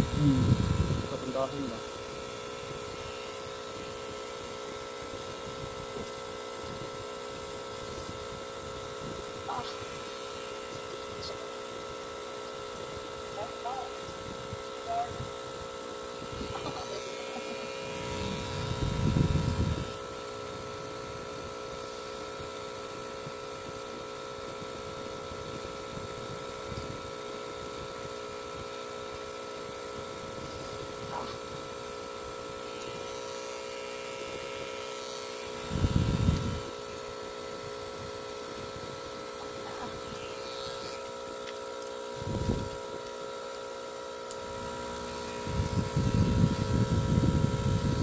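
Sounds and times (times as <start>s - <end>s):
tattoo machine humming: 0.0s - 48.0s.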